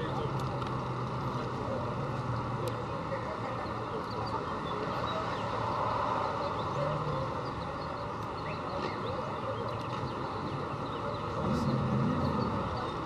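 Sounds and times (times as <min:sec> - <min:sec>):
crowd hum: 0:00.0 - 0:13.0
distant sports car engines: 0:00.0 - 0:13.0
traffic hum: 0:00.0 - 0:13.0.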